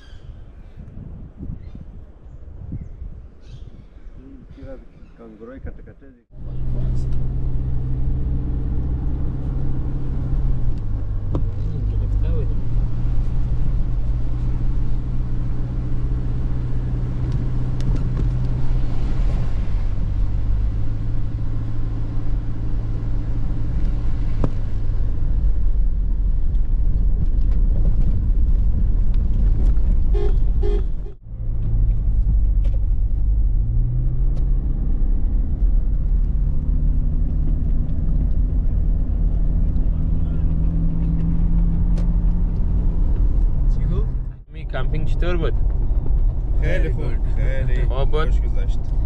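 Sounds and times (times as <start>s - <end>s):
car engine and tyres on gravel: 6.7s - 49.0s.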